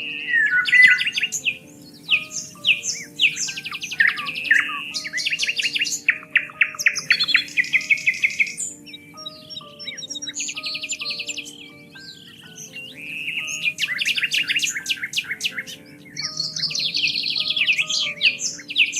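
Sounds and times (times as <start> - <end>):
soft background music: 0.0 - 18.9
songbirds chirping and singing: 0.0 - 18.9.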